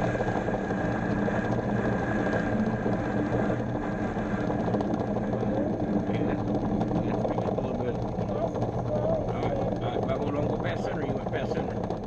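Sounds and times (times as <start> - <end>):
cutting tool turning acrylic: 0.0 - 12.0
lathe motor humming: 0.0 - 12.0.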